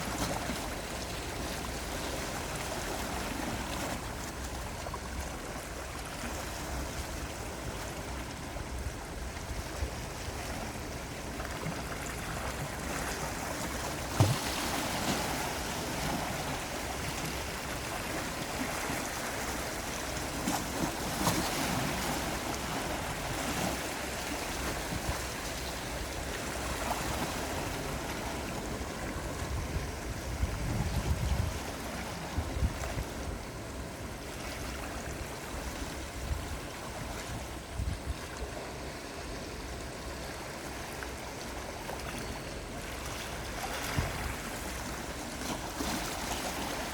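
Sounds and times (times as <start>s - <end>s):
sea waves lapping: 0.0s - 46.9s.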